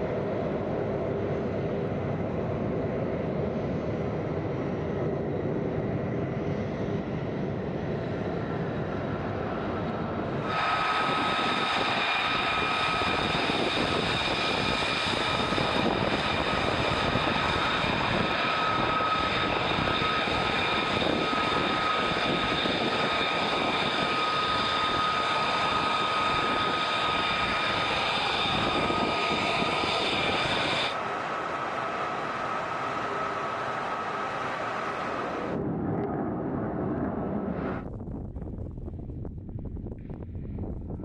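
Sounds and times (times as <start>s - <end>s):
jet engine whine and rush: 0.0s - 41.0s.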